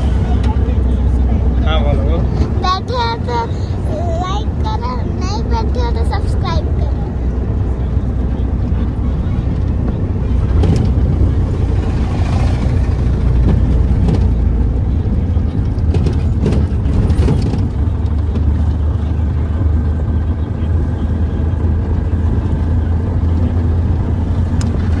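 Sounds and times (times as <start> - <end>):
road noise: 0.0 - 25.0
van engine drone: 0.0 - 25.0.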